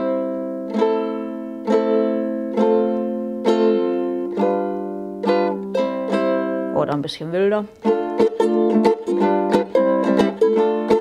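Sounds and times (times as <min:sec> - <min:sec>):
ukulele chords strummed: 0:00.0 - 0:11.0.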